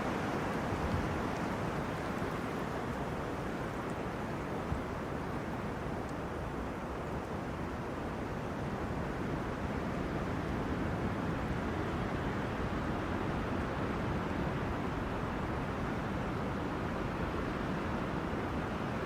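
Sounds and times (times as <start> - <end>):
wind rushing through trees: 0.0 - 19.0.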